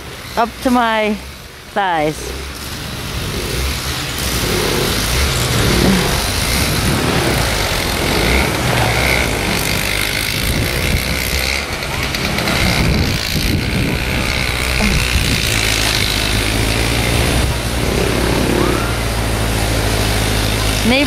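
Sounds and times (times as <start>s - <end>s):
snowblower engine running: 0.0s - 21.0s
wind rumble on microphone: 2.8s - 19.9s.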